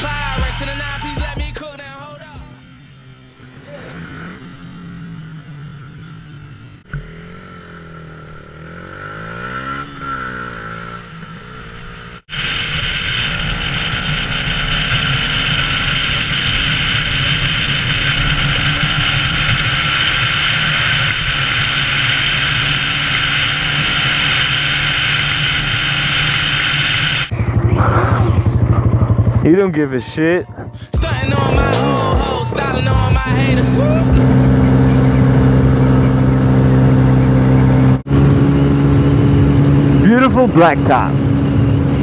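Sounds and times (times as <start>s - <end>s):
motorcycle cruising: 0.0s - 42.0s
motorcycle engines revving: 0.0s - 42.0s.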